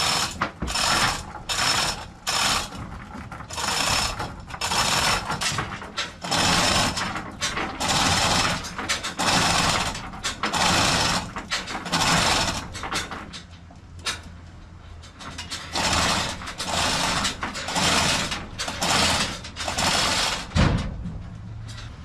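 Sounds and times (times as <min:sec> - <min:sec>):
chain hoist rattling and clicking: 0:00.0 - 0:14.3, 0:15.0 - 0:20.6.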